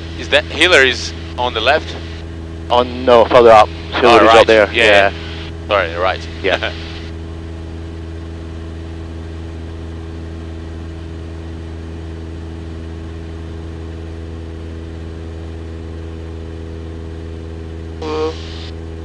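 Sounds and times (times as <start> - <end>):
airplane engine and propeller drone: 0.0 - 19.0.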